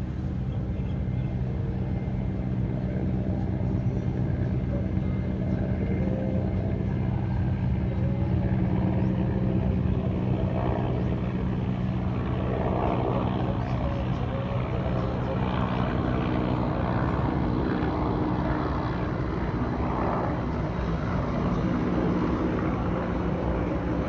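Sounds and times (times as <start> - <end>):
distant helicopter flying: 0.0 - 24.0.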